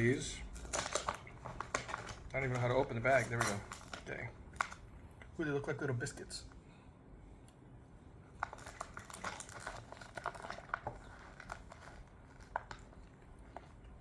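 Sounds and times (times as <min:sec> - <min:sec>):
plastic snack bag crinkling: 0:00.0 - 0:05.8, 0:08.3 - 0:14.0.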